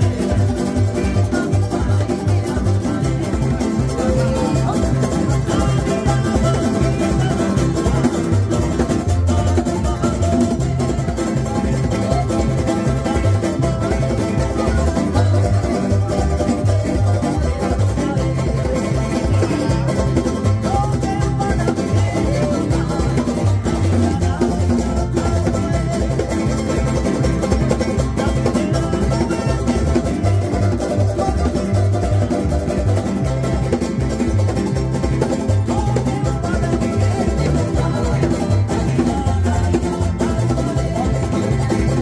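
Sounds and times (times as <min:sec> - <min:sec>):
man singing: 0:00.0 - 0:42.0
pulsing bass line: 0:00.0 - 0:42.0
ukuleles and guitar strummed: 0:00.0 - 0:42.0.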